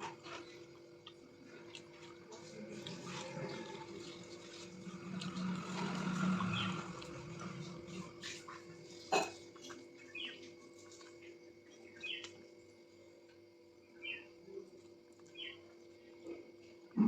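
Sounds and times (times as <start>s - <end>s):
soft chewing and mouth clicks: 0.0s - 13.5s, 14.6s - 16.9s
faint steady hum: 0.0s - 17.0s.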